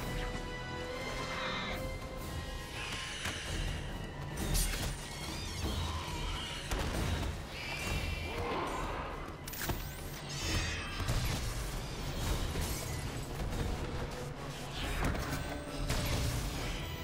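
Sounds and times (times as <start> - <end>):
dark film score: 0.0 - 17.0.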